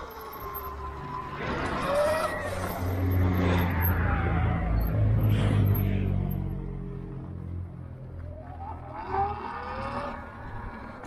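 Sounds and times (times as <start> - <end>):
low vehicle hum: 0.0 - 11.0.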